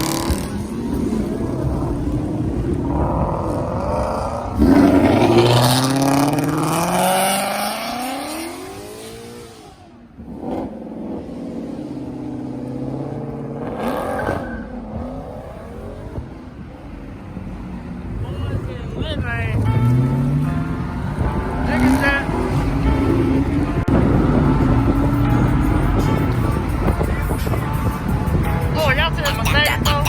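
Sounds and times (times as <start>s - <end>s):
muscle car engine accelerating: 0.0s - 30.0s.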